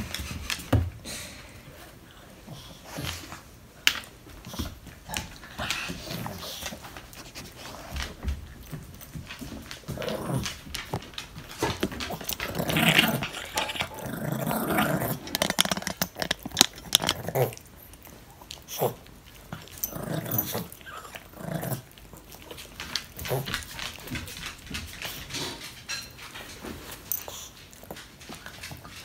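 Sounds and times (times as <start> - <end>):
dog crunching chew treat: 2.9 - 29.0.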